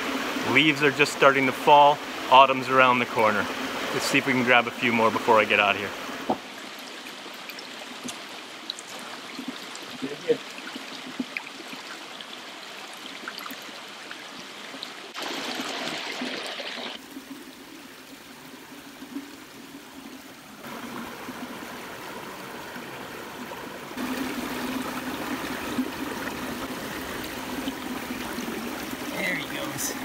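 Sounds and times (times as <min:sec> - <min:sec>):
brook running over stones: 0:00.0 - 0:30.0.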